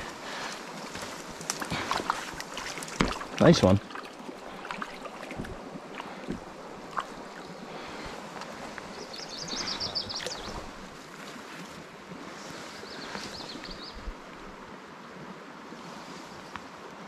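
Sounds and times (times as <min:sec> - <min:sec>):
brook water flowing: 0:00.0 - 0:17.0.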